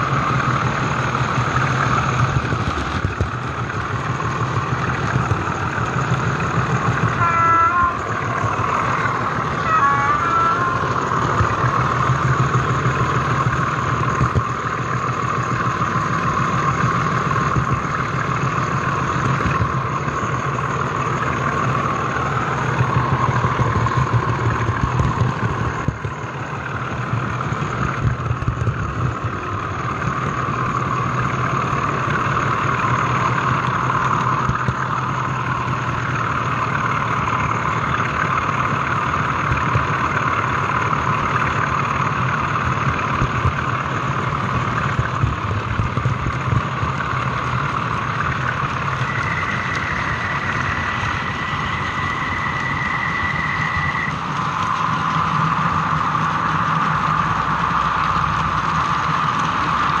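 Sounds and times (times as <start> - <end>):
model train running on rails: 0.0 - 60.0
thin high whine: 1.8 - 41.5, 42.2 - 60.0.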